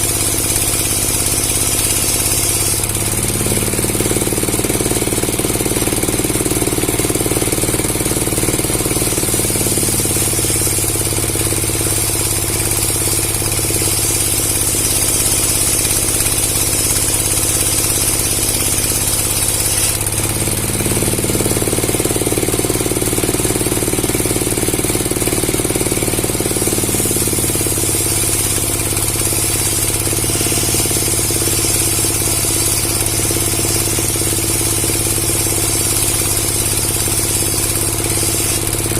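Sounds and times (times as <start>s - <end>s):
motor-driven wood saw running: 0.0s - 38.9s.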